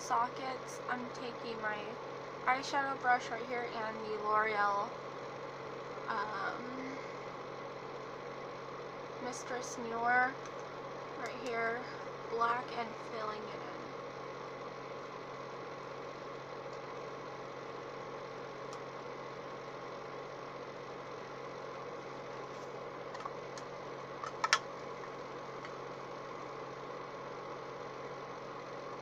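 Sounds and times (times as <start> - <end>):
mechanical room hum: 0.0 - 29.0.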